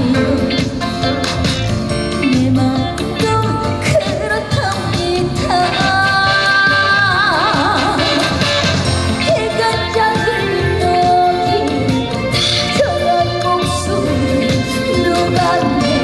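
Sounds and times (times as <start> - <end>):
live band playing: 0.0 - 16.0
person singing with vibrato: 0.0 - 16.0.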